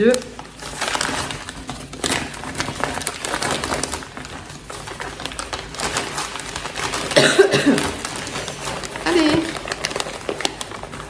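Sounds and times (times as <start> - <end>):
packaging rustling and tearing: 0.0 - 11.0.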